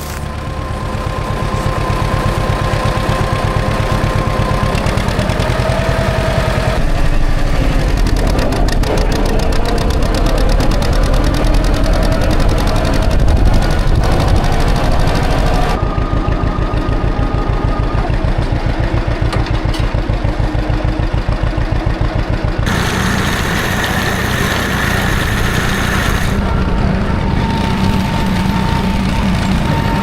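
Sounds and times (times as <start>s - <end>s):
tractor engine chugging: 0.0s - 30.0s.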